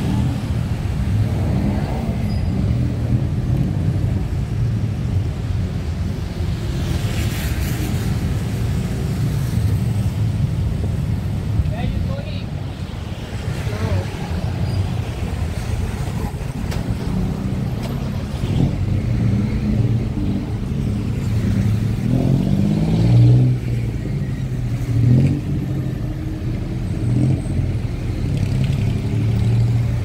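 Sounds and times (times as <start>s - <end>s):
traffic engine rumble: 0.0s - 30.0s.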